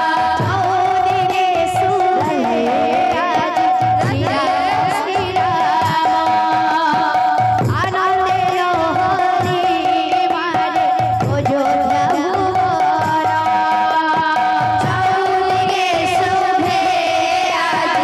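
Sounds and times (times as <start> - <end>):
hand drum beats: 0.0 - 18.0
person singing: 0.0 - 18.0.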